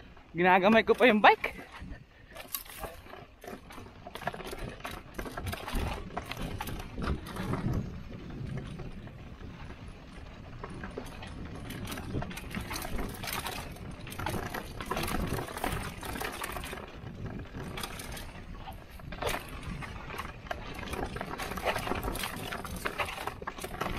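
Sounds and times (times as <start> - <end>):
bike rattling over bumps: 0.0 - 23.9
bike tyres crunching on dirt: 0.0 - 23.9.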